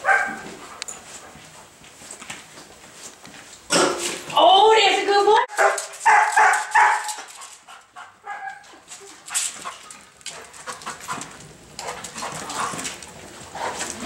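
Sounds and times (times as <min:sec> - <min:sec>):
clicks and scuffs: 0:00.0 - 0:04.4, 0:05.5 - 0:14.0.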